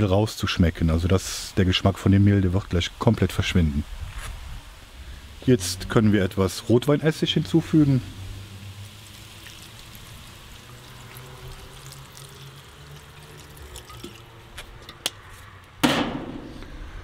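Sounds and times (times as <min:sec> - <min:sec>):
liquid sizzling on hot food: 0:00.8 - 0:14.9.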